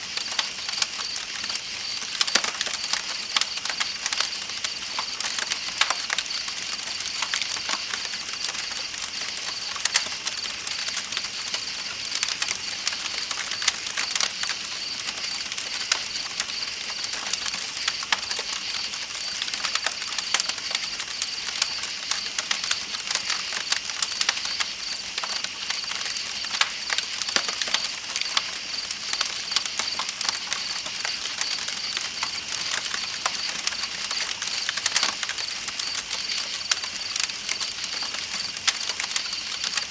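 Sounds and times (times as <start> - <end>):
campfire crackling and popping: 0.0 - 39.9
night insects trilling: 0.1 - 39.9.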